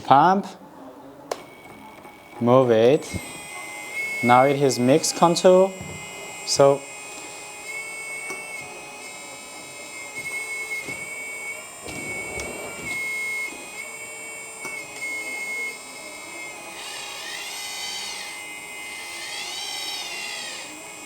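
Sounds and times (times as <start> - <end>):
hydraulic pump whining: 1.3 - 21.0.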